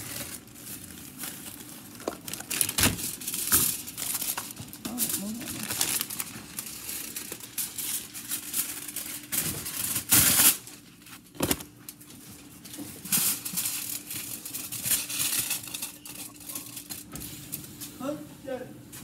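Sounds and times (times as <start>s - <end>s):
aluminium foil crumpling: 0.0s - 18.0s.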